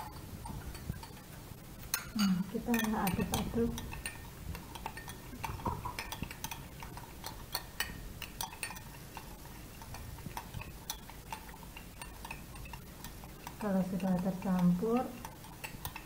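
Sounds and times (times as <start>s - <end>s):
spoon clinking against container: 1.9s - 16.0s.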